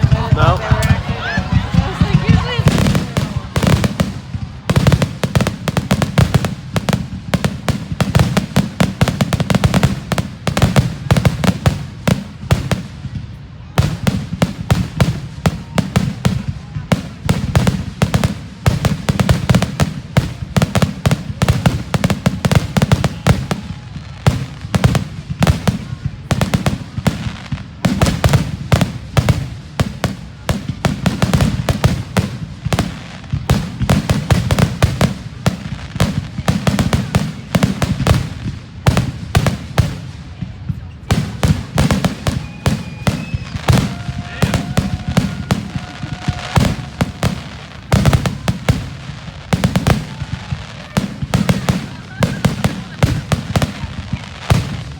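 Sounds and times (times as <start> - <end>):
fireworks booming and cracking: 0.0 - 54.9.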